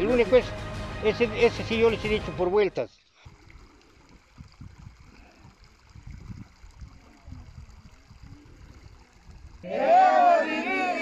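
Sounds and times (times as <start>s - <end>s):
water running over stones: 0.0s - 11.0s.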